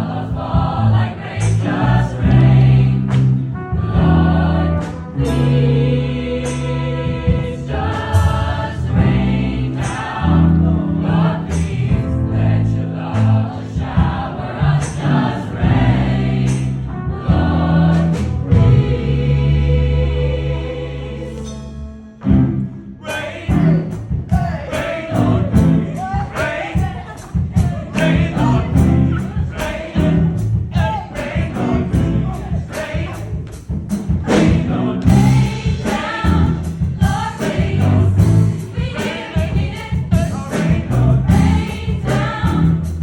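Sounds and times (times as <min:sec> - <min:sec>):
a cappella choir singing: 0:00.0 - 0:43.0.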